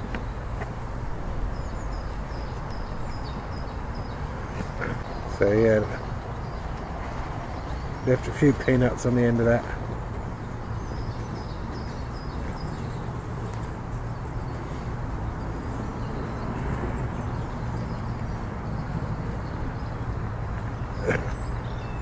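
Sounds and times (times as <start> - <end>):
low outdoor rumble: 0.0 - 21.8.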